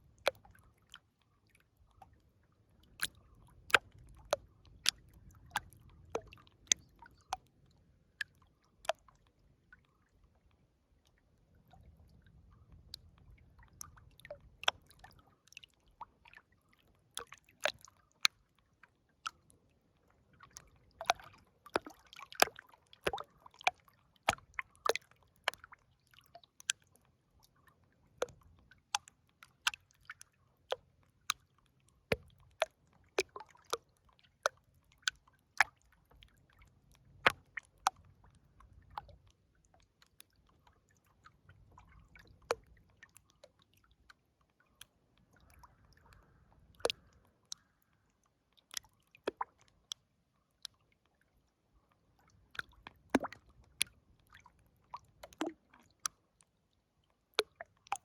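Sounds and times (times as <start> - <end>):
river water gurgling and lapping: 0.0 - 28.5, 31.4 - 49.8, 51.0 - 58.0.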